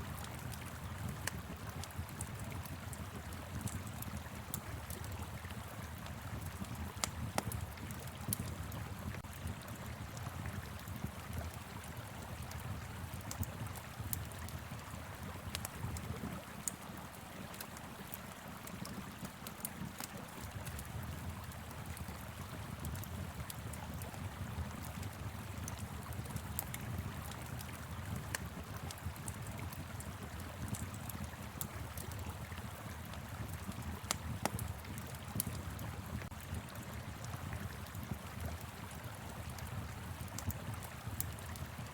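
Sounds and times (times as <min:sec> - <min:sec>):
wood fire crackling and popping: 0:00.1 - 0:41.9.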